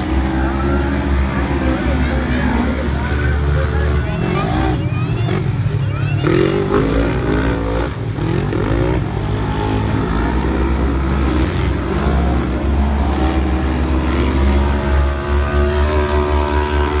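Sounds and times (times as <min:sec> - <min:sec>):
racing engines running hard: 0:00.0 - 0:17.0.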